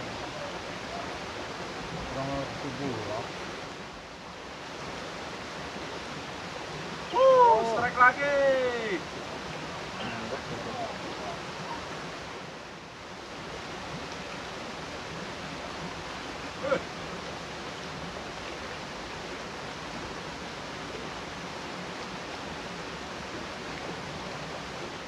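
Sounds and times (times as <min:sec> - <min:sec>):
flowing stream water: 0:00.0 - 0:25.0.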